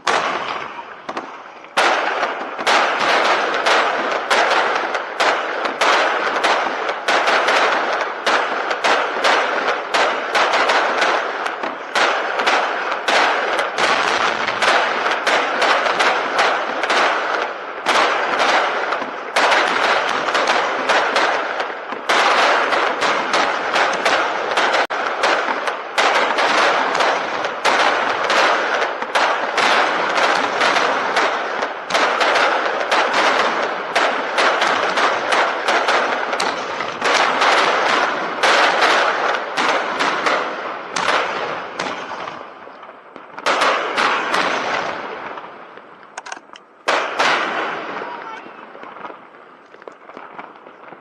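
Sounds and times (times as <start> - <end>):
crackling fireworks: 0.0 - 51.0.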